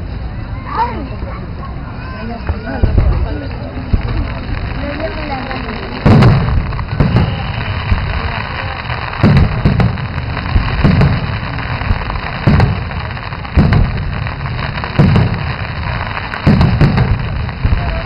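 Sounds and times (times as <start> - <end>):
firework shells booming: 2.5 - 18.0
crackle of burning stars: 3.3 - 18.0.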